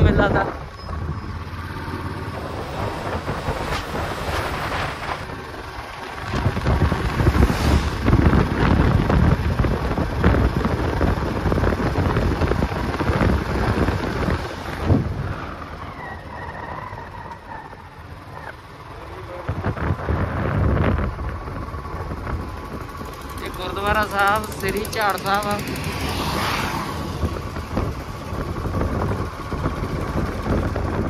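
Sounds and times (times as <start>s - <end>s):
wind buffeting microphone: 0.0s - 15.6s, 19.3s - 31.0s
motorcycle engine: 0.0s - 31.0s.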